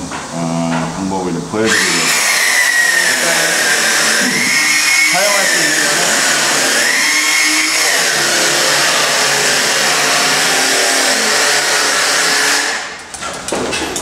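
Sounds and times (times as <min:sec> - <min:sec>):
electric motor whining: 0:01.7 - 0:12.9.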